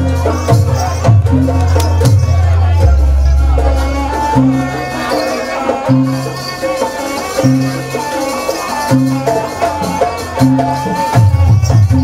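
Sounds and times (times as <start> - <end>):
busy high melody: 0.0 - 12.0
rattling percussion: 0.0 - 12.0.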